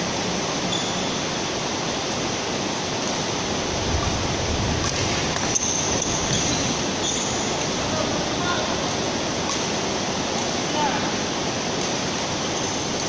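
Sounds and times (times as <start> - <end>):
rushing background noise: 0.0 - 13.0.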